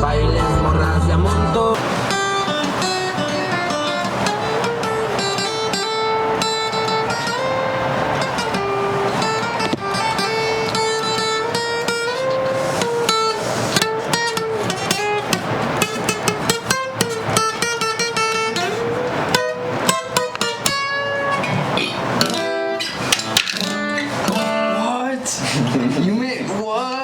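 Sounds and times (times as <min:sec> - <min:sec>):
song with plucked guitars: 0:00.0 - 0:26.1.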